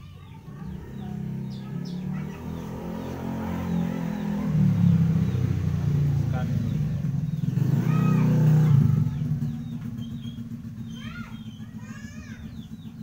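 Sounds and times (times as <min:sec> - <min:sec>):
bird chirps: 0:00.0 - 0:13.0
vehicle engine approaching: 0:00.0 - 0:13.0.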